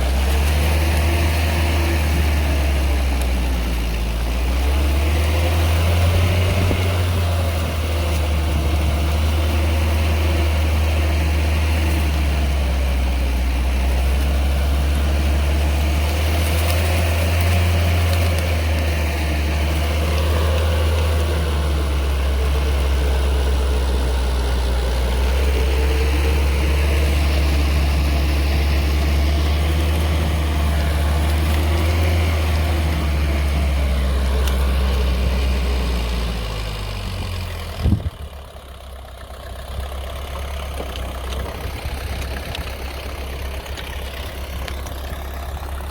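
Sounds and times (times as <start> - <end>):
rotary tiller engine droning: 0.0 - 45.9.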